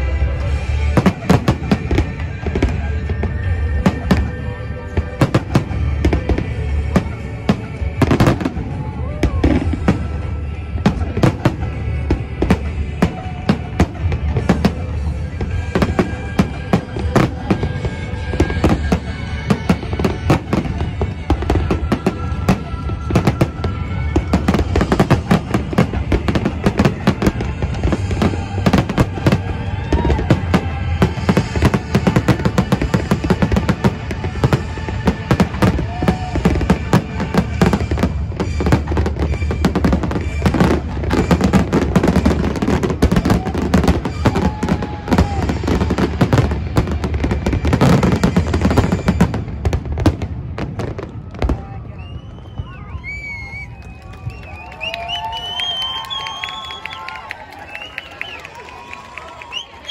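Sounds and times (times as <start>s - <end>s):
music playing: 0.0s - 52.9s
fireworks bangs and crackling: 0.0s - 59.9s.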